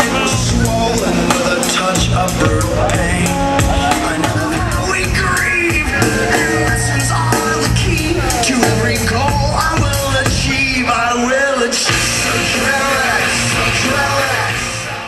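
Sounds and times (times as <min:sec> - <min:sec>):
steady drum beat: 0:00.0 - 0:11.3, 0:11.9 - 0:15.0
rock song with singing: 0:00.0 - 0:15.0.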